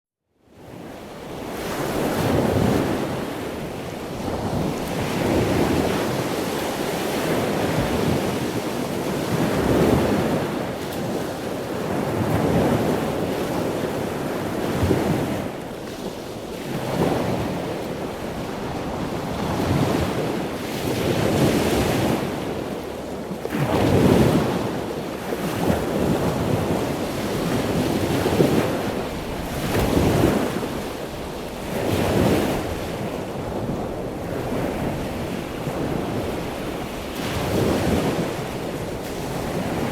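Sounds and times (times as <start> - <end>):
ocean waves breaking: 1.0 - 39.9.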